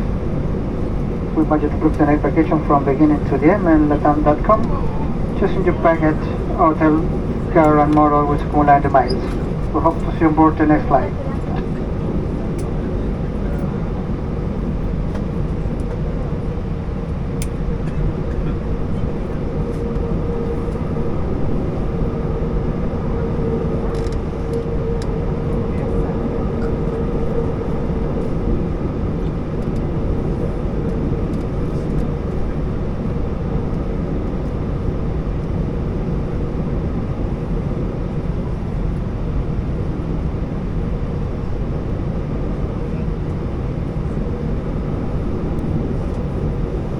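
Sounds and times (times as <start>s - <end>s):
airplane cabin low rumble: 0.0s - 46.9s
faint steady whine: 0.0s - 46.9s.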